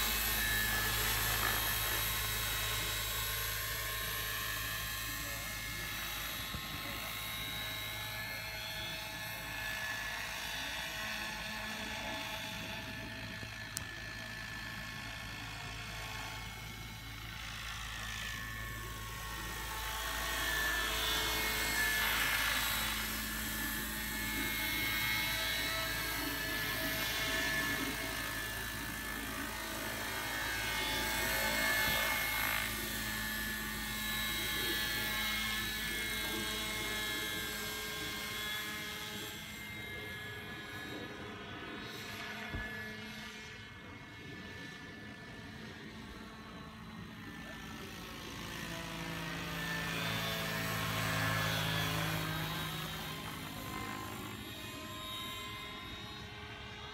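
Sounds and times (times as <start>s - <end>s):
model helicopter rotor whine: 0.0s - 56.9s.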